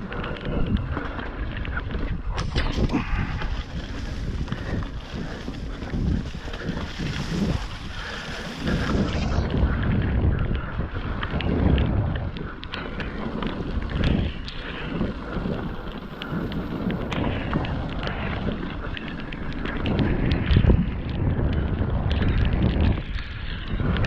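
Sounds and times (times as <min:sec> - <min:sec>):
bike clicks and rattles: 0:00.0 - 0:24.0
tyres rumbling on trail: 0:00.0 - 0:24.0
wind buffeting microphone: 0:00.0 - 0:24.0.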